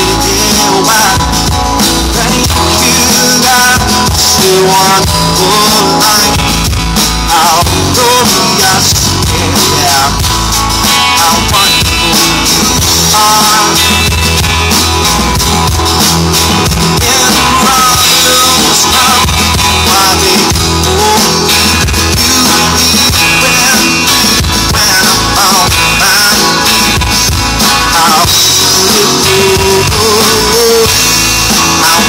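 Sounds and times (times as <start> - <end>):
bent lead guitar notes: 0.0 - 32.0
live rock band playing: 0.0 - 32.0.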